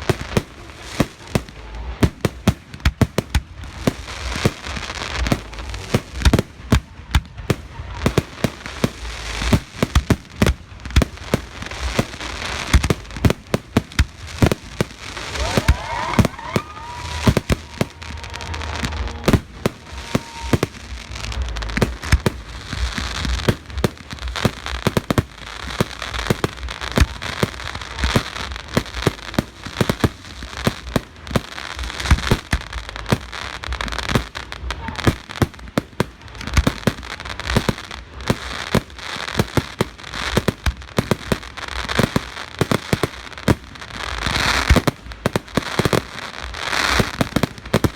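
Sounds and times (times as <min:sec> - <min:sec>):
high crackling hiss: 0:00.0 - 0:47.9
rising fireworks whistles: 0:00.0 - 0:47.9.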